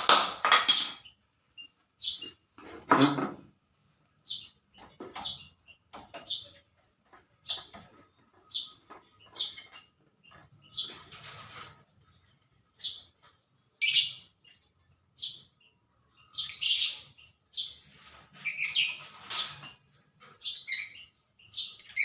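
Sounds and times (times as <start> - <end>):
small bird chirping: 0.7 - 2.5, 4.1 - 22.0.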